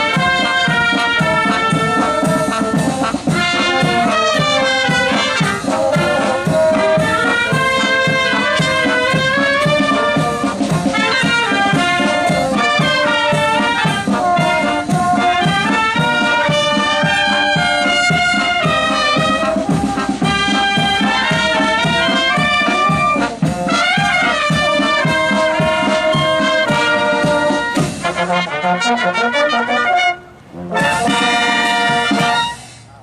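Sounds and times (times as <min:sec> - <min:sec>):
marching band playing a march: 0:00.0 - 0:33.0.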